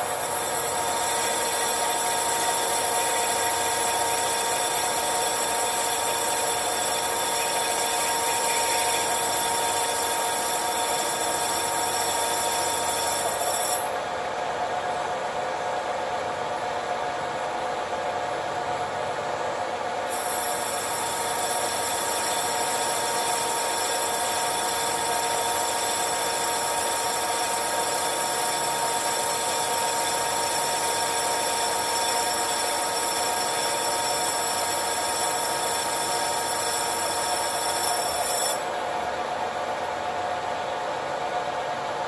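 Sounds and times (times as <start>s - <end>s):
lathe cutting whine: 0.0s - 14.0s, 20.1s - 40.1s
lathe running: 0.0s - 14.0s, 20.1s - 40.1s.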